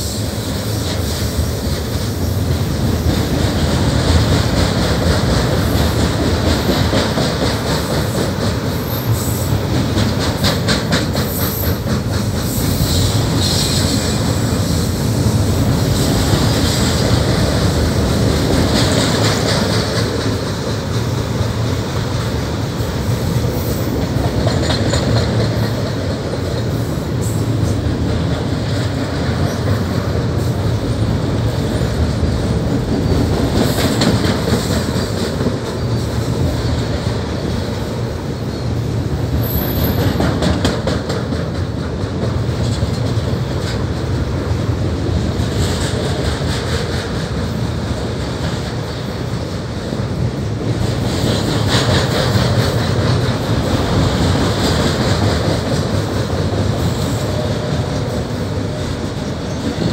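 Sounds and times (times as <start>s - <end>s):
train wheels rumbling on rail: 0.0s - 59.9s
wheels clicking over rail joints: 0.1s - 59.9s.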